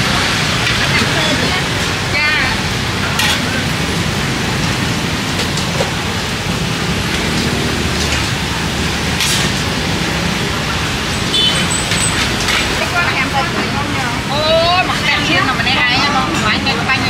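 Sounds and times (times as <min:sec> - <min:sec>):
oil sizzling in a deep fryer: 0:00.0 - 0:17.0.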